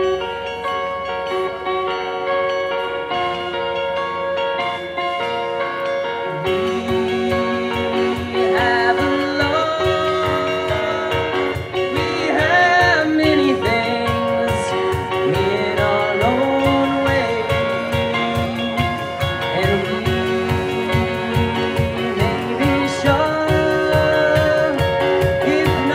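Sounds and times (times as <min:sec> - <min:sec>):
rock band playing: 0:00.0 - 0:25.9
sliding lead melody: 0:00.0 - 0:25.9
drums: 0:04.4 - 0:25.9.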